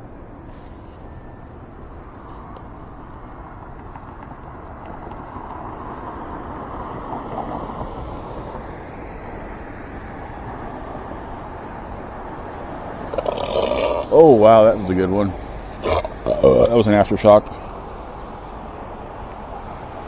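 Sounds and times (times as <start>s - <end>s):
tyres hissing on wet road: 0.4s - 20.0s.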